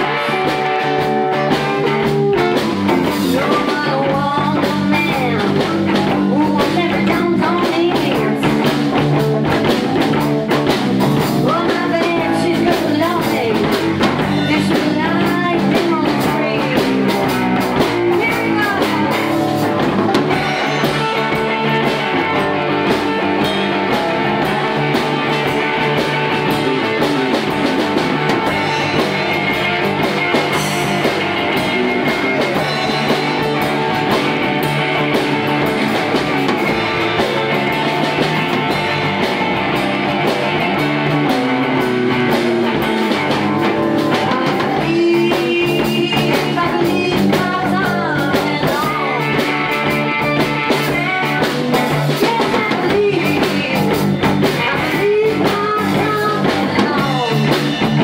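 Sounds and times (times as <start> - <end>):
slide guitar notes: 0.0 - 10.4, 11.0 - 58.0
blues band playing live: 0.0 - 58.0.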